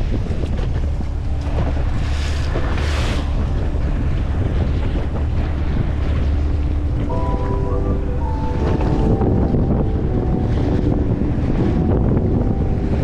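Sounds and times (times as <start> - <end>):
sea water rushing along hull: 0.0 - 13.0
wind buffeting microphone: 0.0 - 13.0.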